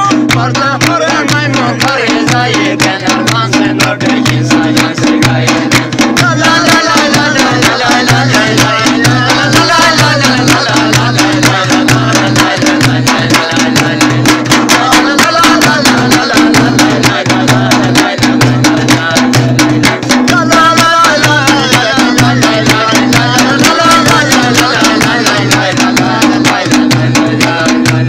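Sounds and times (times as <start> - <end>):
men clapping in fast rhythm: 0.0 - 28.0
men singing a folk song: 0.0 - 28.0.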